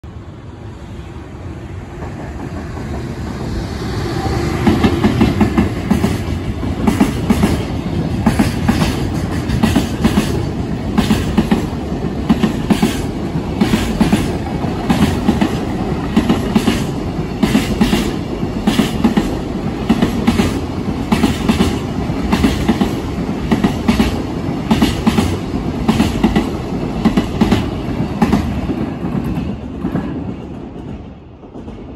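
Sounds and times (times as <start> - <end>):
freight train rumbling past: 0.0 - 31.9
train wheels clicking over rail joints: 4.5 - 31.9.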